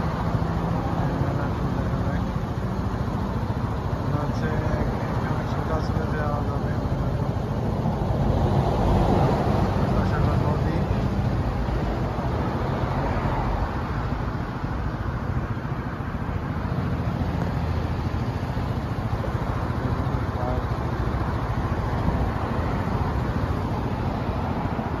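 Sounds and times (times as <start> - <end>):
city road traffic rumble: 0.0 - 25.0.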